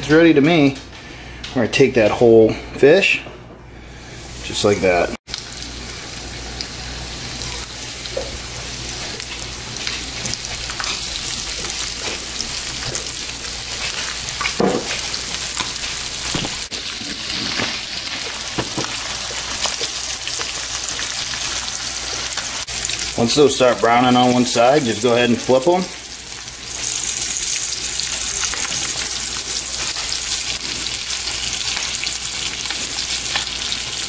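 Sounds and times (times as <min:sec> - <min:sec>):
fish sizzling in hot oil: 0:05.3 - 0:34.0.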